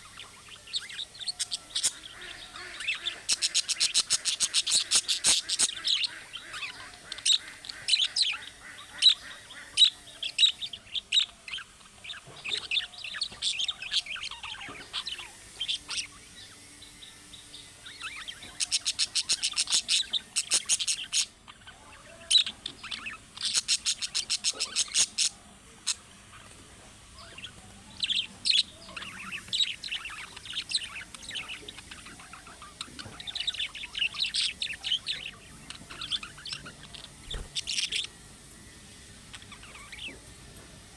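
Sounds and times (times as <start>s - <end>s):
budgerigar chirping and warbling: 0.0s - 26.4s, 27.2s - 38.3s
rapid bird chatter: 0.0s - 40.9s.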